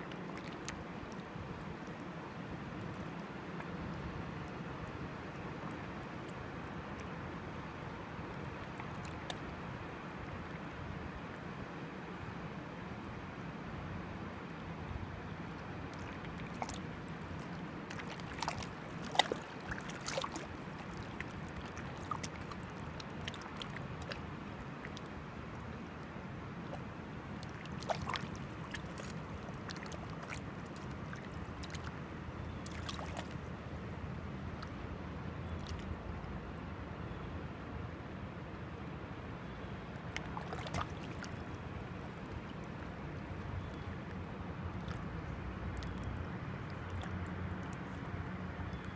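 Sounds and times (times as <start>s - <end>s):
water flowing and lapping: 0.0s - 48.9s.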